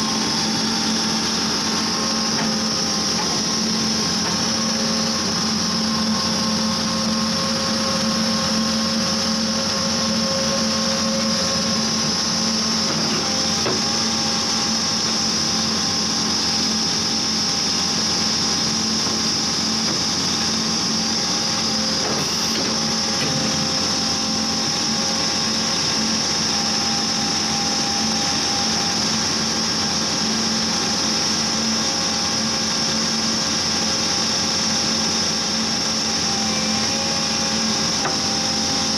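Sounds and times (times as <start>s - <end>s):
drilling rig engine hum: 0.0s - 38.9s
high steady whine: 0.0s - 38.9s.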